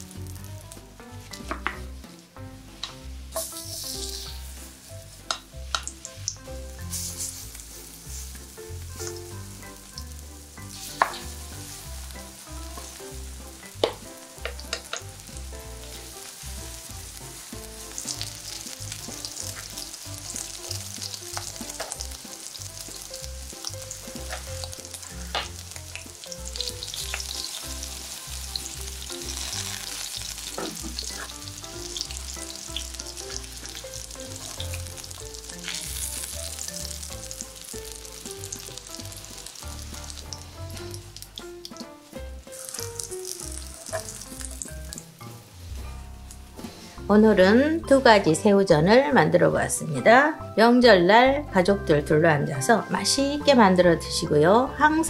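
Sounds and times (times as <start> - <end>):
fritters sizzling in oil: 0.0 - 47.1.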